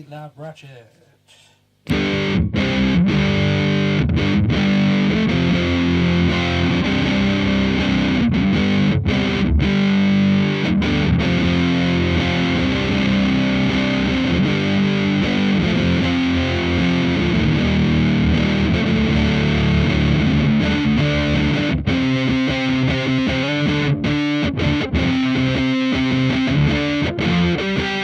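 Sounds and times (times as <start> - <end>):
fuzzed electric guitar: 1.8 - 28.0.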